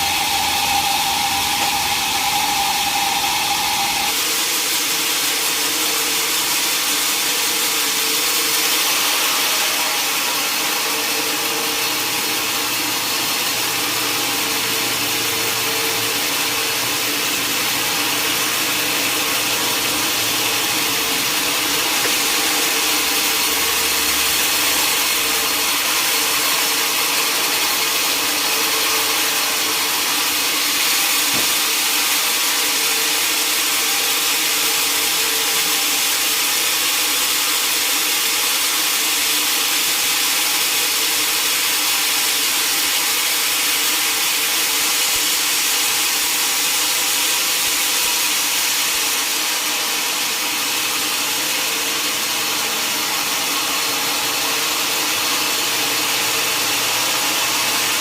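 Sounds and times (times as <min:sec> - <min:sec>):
sawmill saw cutting log: 0:00.0 - 0:58.0.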